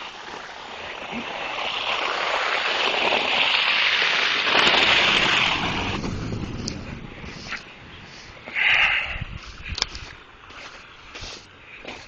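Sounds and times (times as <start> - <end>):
tyres hissing on slush: 0.0 - 6.0, 6.6 - 9.6, 11.1 - 12.0.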